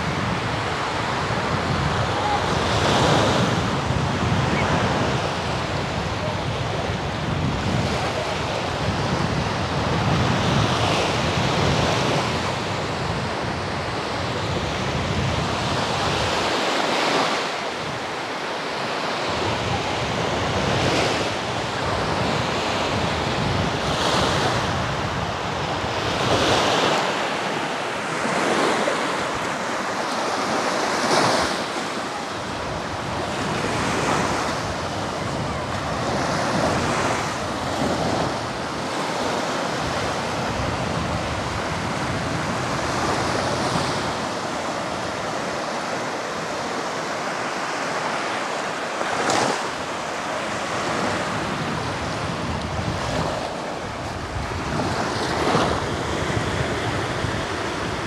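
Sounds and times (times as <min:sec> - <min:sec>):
surf washing onto beach: 0:00.0 - 0:58.0
wind buffeting microphone: 0:00.0 - 0:58.0.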